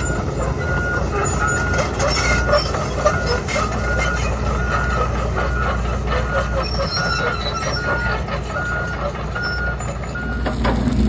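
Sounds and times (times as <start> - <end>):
reversing alarm beeping: 0.0 - 10.8
heavy machinery engine running: 0.0 - 11.0
metallic clanking and squealing: 0.0 - 11.0.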